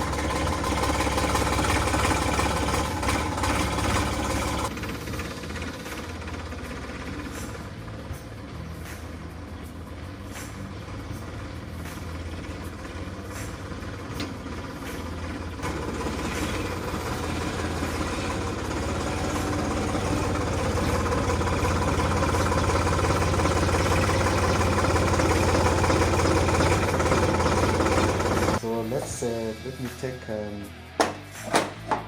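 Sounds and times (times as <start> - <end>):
tractor diesel engine running: 0.0 - 29.5.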